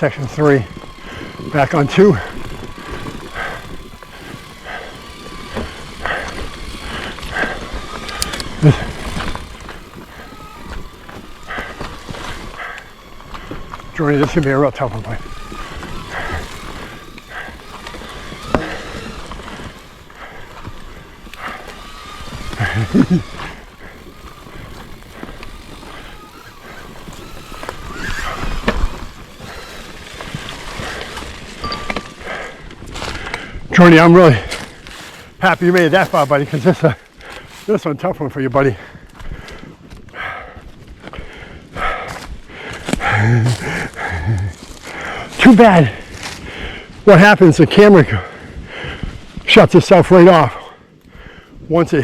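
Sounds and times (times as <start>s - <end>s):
bike knocking and rattling: 0.0s - 51.4s
bike tyres rolling over dirt: 0.0s - 52.0s.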